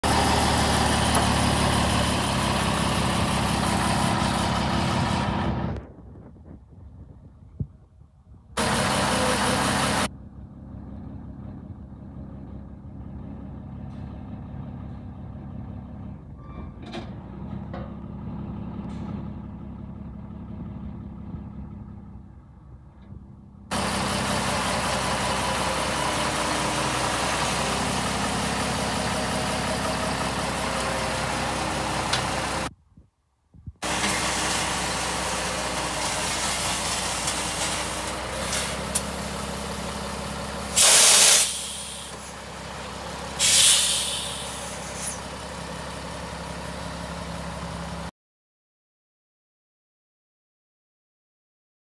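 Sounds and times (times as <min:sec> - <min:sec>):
diesel truck engine idling: 0:00.0 - 0:05.8, 0:08.6 - 0:16.4, 0:17.2 - 0:32.7, 0:33.8 - 0:48.1.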